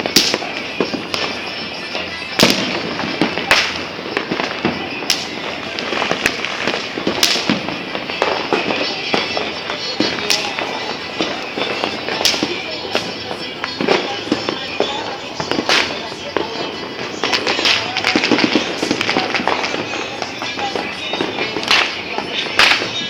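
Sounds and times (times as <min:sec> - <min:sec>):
firecracker bangs: 0:00.0 - 0:23.0
fireworks crackling: 0:00.0 - 0:23.0.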